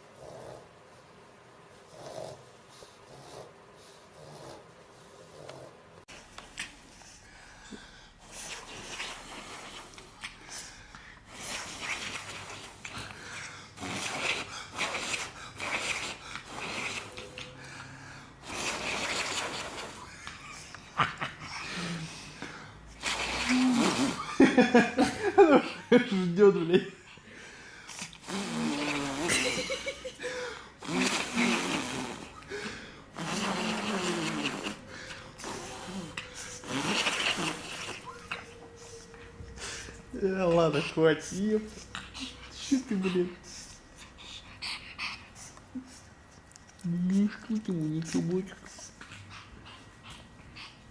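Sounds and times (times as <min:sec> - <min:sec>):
dog snorting and breathing: 0:00.0 - 0:01.0, 0:01.8 - 0:24.7, 0:27.4 - 0:29.8, 0:30.7 - 0:46.5.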